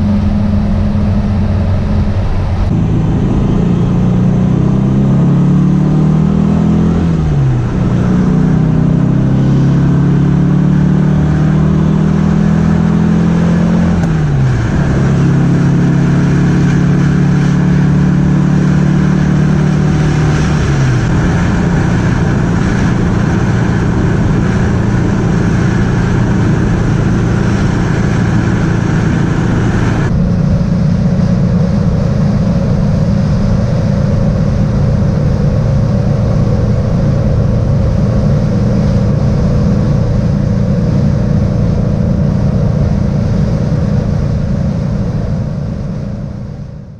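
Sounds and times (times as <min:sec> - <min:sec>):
car engine shifting gears: 0:00.0 - 0:45.7
road and wind noise: 0:00.0 - 0:46.9.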